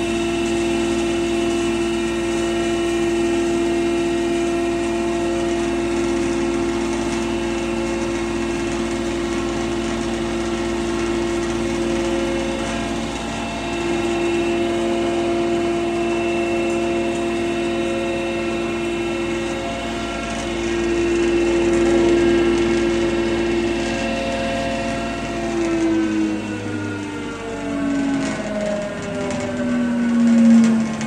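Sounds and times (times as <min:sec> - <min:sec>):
grinding mill humming: 0:00.0 - 0:31.0.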